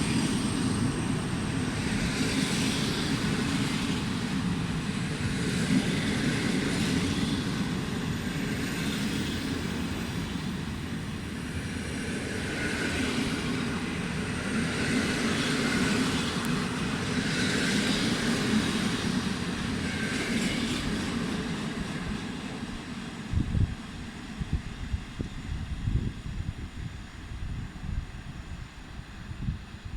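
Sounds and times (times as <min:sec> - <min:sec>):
train wheels rumbling on rails: 0:00.0 - 0:29.8.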